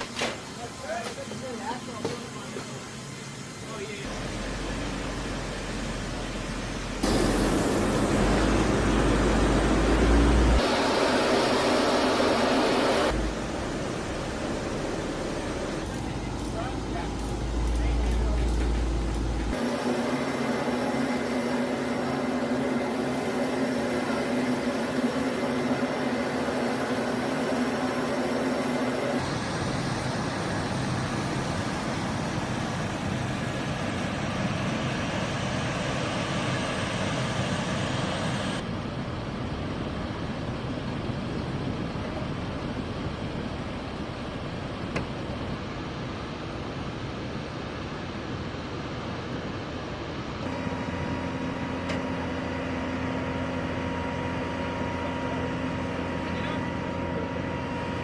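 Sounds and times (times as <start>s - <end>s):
jet engines running: 0.0s - 58.0s
steady hum: 0.0s - 58.0s.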